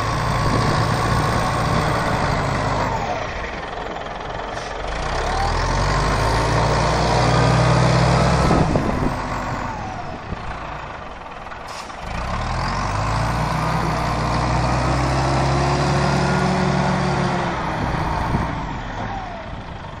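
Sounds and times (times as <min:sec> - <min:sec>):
diesel engine pulling hard: 0:00.0 - 0:20.0.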